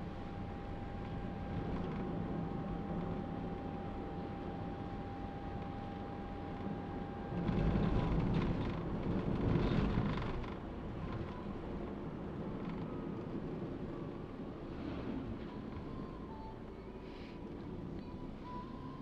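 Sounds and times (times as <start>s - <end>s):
engine and tyres rumbling: 0.0s - 19.0s.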